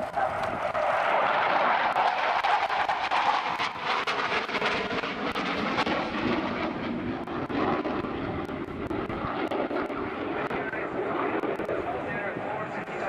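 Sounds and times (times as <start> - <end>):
jet noise: 0.0 - 13.0.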